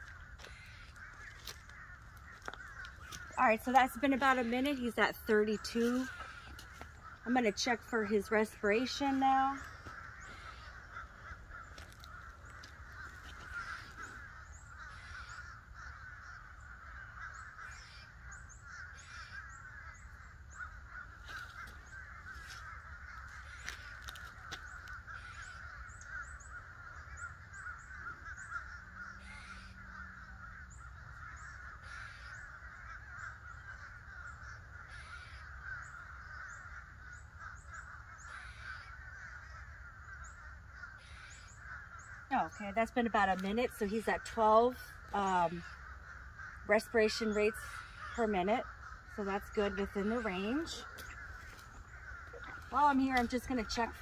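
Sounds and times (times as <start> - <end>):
birds chattering: 0.0 - 54.0
loud bird call: 0.0 - 54.0.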